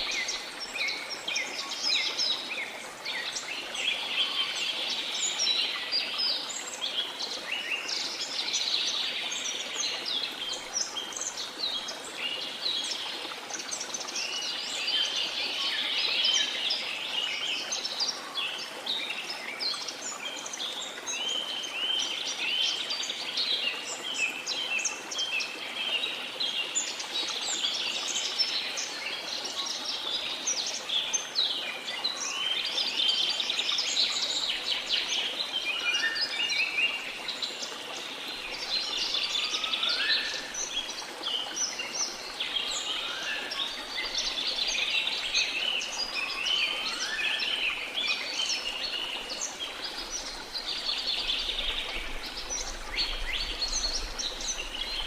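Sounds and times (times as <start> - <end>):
faint rushing water: 0.0 - 55.0.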